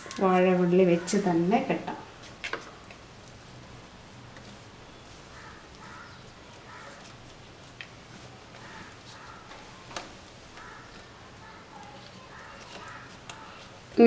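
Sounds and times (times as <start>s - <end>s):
handling leaf packet: 2.1s - 14.0s.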